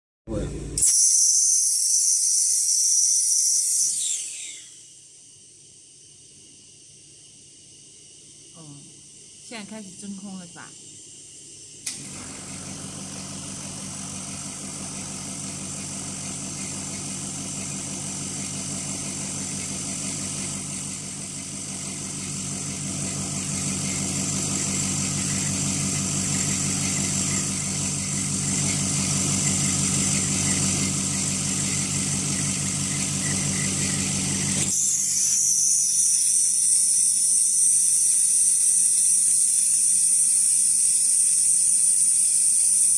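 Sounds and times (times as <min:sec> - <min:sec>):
machine hum: 0:08.4 - 0:42.9.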